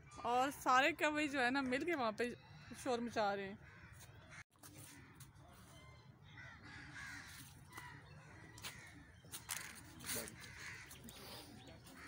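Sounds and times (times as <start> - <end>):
crows cawing faintly: 2.3 - 12.0.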